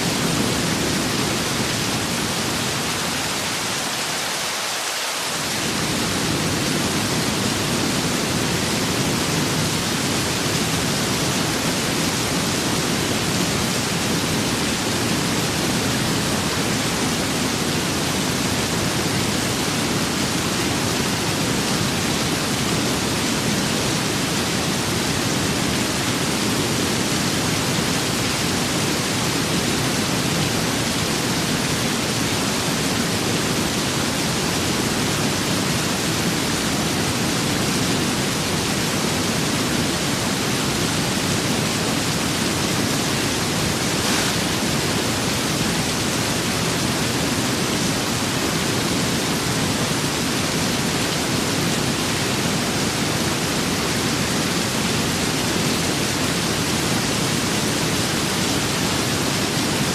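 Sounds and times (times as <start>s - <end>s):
steady rain and wind: 0.0s - 59.9s.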